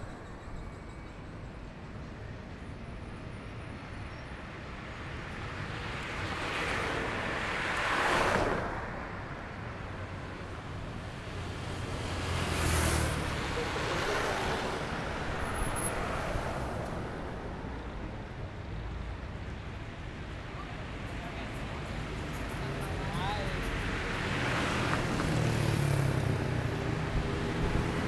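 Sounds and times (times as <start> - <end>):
cars passing on street: 0.1 - 28.0.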